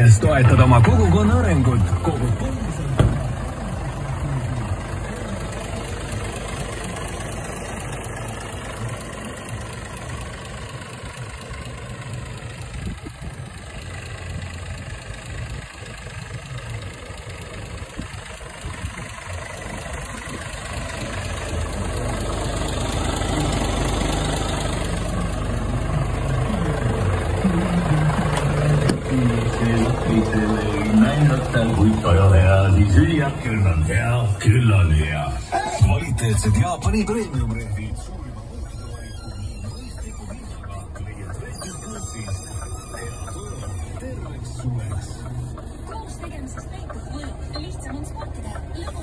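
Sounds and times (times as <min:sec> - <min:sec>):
truck diesel engine running: 0:00.0 - 0:49.0.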